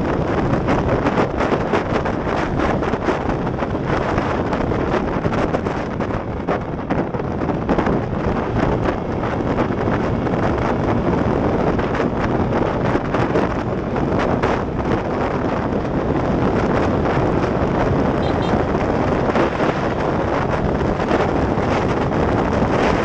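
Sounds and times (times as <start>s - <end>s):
road noise: 0.0s - 23.0s
wind gusting over microphone: 0.0s - 23.0s.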